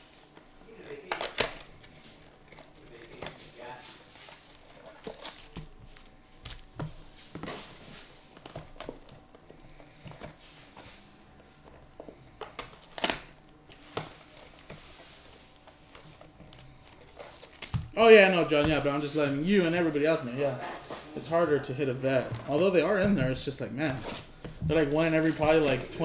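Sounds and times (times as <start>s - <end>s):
cards being handled: 0.0s - 21.3s, 22.2s - 26.0s
foil wrappers crinkling and tearing: 0.0s - 21.3s, 22.1s - 26.0s.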